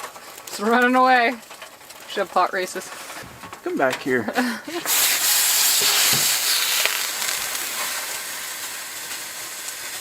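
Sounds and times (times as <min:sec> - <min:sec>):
water hissing on hot stove: 0:00.0 - 0:10.0.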